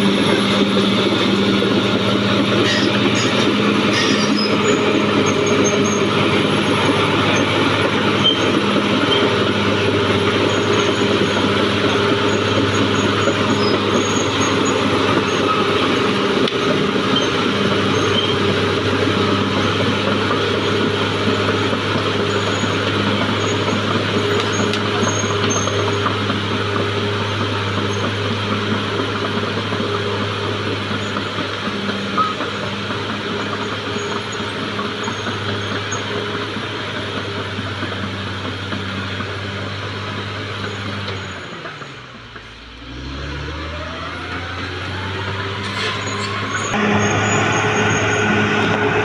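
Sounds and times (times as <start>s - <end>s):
bulldozer diesel engine running: 0.0s - 49.0s.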